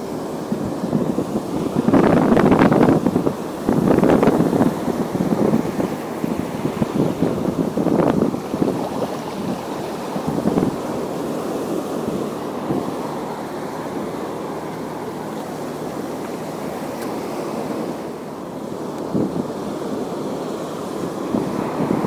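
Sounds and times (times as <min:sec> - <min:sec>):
waves rushing: 0:00.0 - 0:22.0
wind buffeting microphone: 0:00.0 - 0:22.0.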